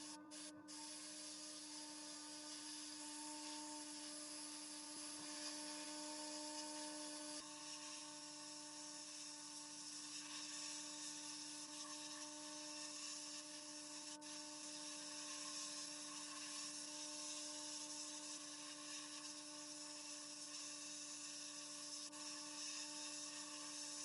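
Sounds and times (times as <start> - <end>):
small electric motor humming: 0.0 - 24.0.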